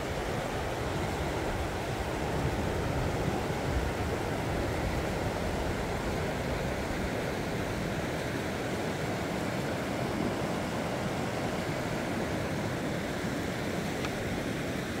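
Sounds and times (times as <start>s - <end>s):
river rapids rushing over stones: 0.0s - 15.0s.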